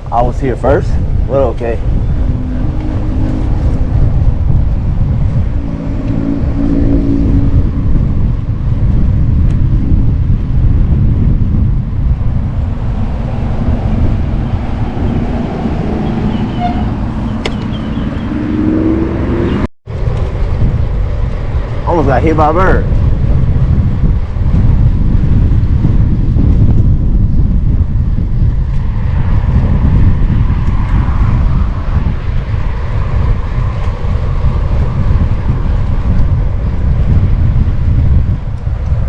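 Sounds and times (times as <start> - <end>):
cars passing: 0.0 - 9.3, 11.8 - 23.6, 27.9 - 39.0
wind and road noise: 0.0 - 39.0.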